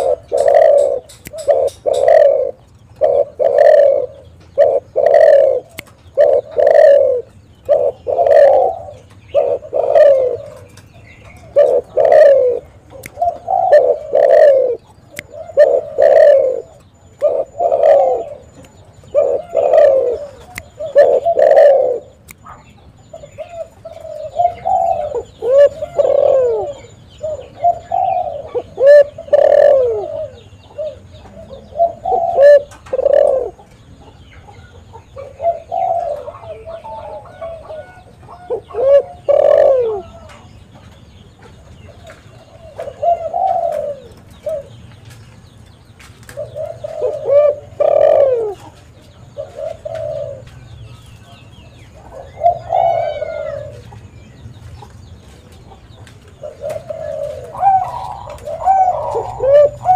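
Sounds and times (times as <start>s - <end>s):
dove cooing: 0.0s - 40.6s, 41.4s - 44.8s, 46.2s - 54.0s, 55.2s - 59.9s.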